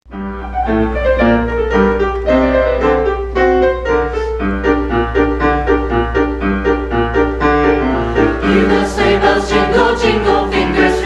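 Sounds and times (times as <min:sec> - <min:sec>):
piano playing bouncy chords: 0:00.0 - 0:11.0.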